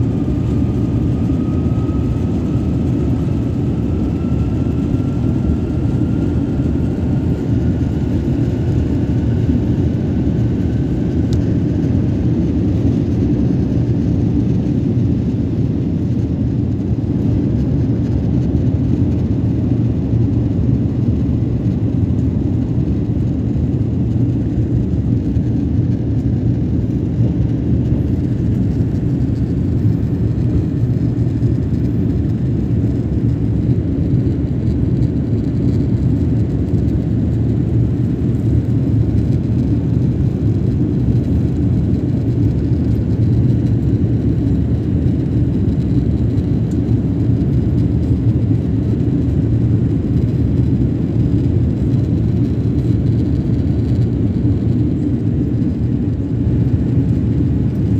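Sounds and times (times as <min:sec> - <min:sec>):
jet airliner cabin noise: 0:00.0 - 0:57.9.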